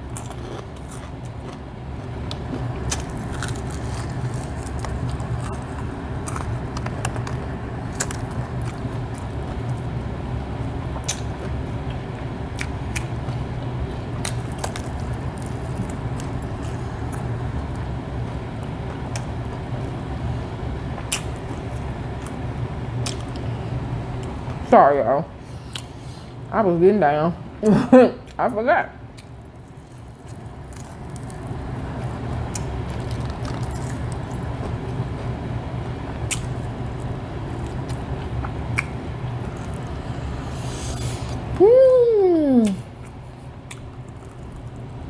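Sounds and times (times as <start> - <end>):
person chewing fried chicken: 0.0 - 24.6, 25.5 - 26.4, 29.1 - 41.6, 42.6 - 45.0
steady low rumble: 0.0 - 45.0.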